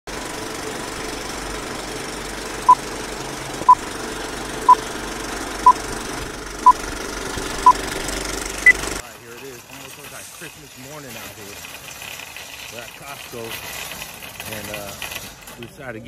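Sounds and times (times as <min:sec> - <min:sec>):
film projector clatter and whir: 0:00.1 - 0:16.0.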